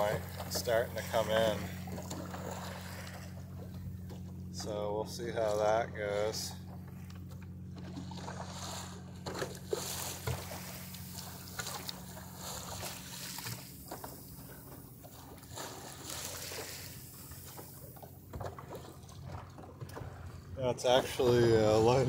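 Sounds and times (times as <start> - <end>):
small water splashes: 0.0 - 4.4, 7.7 - 22.0
steady low hum: 0.0 - 22.0
water sloshing along wooden hull: 0.0 - 22.0.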